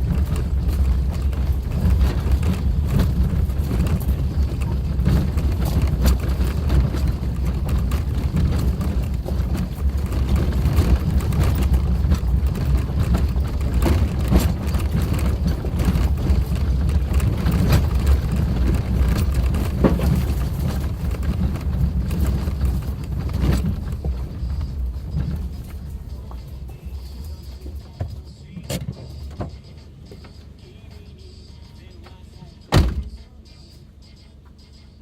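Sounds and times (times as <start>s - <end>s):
knocks and rattles: 0.0s - 29.6s
car engine and road noise: 0.0s - 35.0s.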